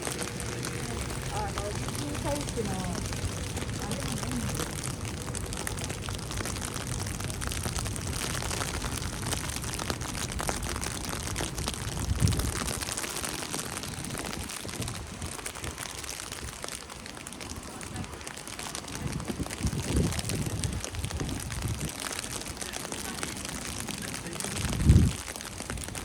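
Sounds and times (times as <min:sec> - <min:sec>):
wet snow pattering: 0:00.0 - 0:26.0.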